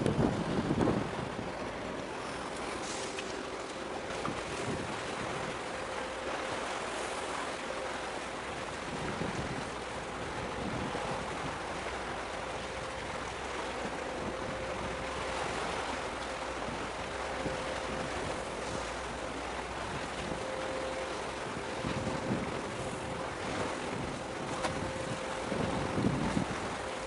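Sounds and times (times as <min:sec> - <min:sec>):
wind on microphone: 0:00.0 - 0:03.0, 0:04.0 - 0:05.9, 0:08.7 - 0:27.0
faint steady hum: 0:00.0 - 0:27.0
sea water washing: 0:00.0 - 0:27.0.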